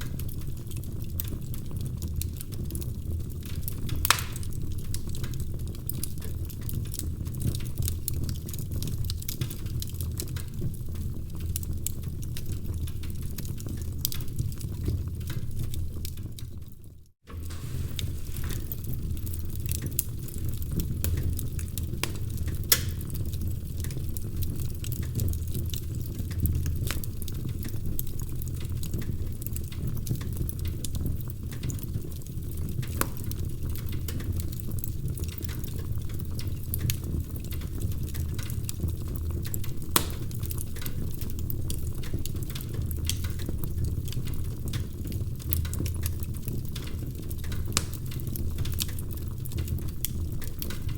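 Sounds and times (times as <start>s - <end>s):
fire low rumble: 0.0s - 50.9s
wood fire crackling: 0.0s - 50.9s.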